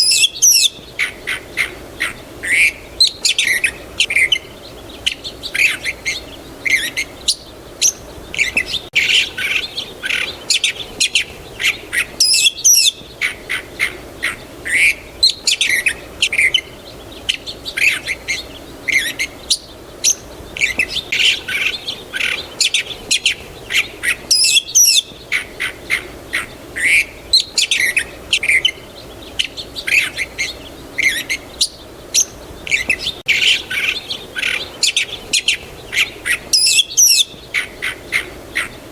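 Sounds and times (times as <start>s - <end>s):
faint steady background noise: 0.0s - 38.9s
songbirds chirping and singing: 0.0s - 38.9s.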